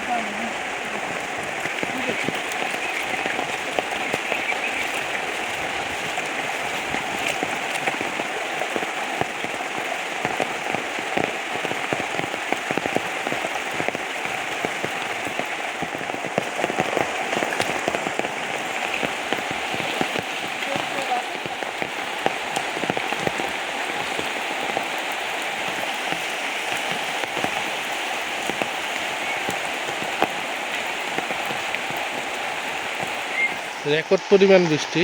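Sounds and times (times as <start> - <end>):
heavy rain falling: 0.0 - 35.0
raindrops ticking close by: 0.0 - 35.0.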